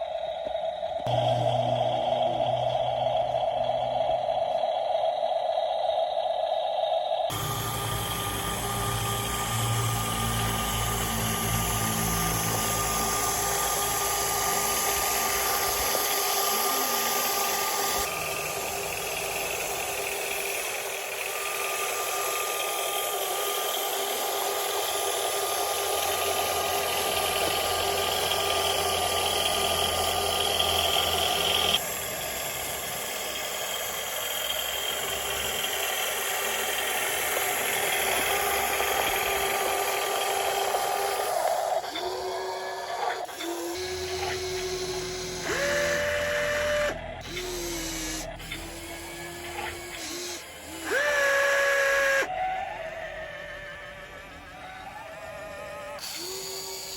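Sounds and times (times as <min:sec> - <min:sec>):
toy excavator motors whining: 0:00.0 - 0:56.9.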